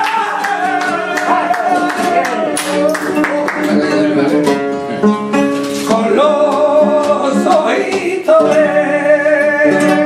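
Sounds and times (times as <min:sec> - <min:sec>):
flamenco guitar plucking: 0:00.0 - 0:10.0
man singing flamenco: 0:00.0 - 0:10.0.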